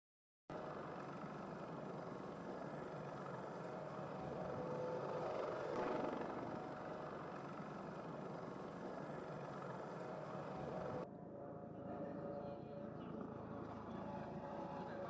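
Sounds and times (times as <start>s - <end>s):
helicopter rotor and engine: 0.5s - 15.0s.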